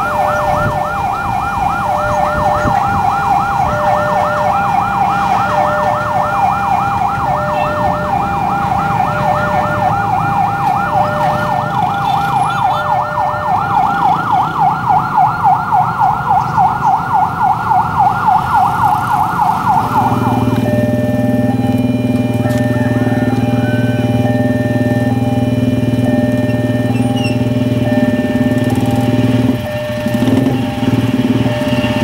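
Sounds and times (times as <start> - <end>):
level crossing alarm warbling: 0.0 - 32.0.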